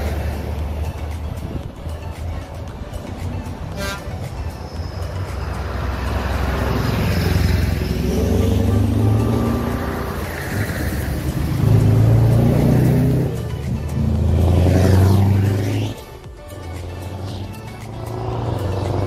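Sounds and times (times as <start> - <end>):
diesel lorries driving past: 0.0 - 19.0.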